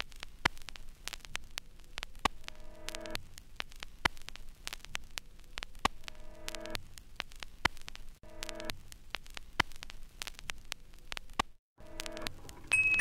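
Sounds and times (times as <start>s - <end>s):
crackling static: 0.0s - 13.0s.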